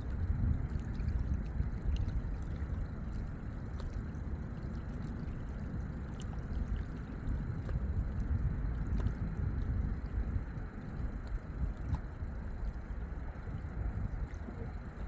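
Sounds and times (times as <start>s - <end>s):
steady low rumble: 0.0s - 15.0s
water lapping at shore: 0.0s - 15.0s.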